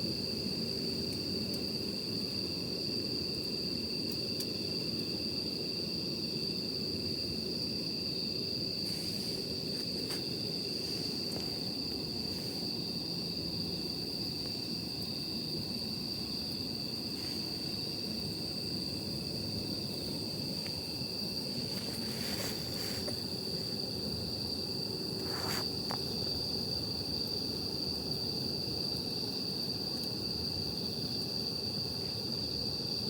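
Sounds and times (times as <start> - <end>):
campfire burning: 0.0 - 33.0
insects trilling: 0.0 - 33.0.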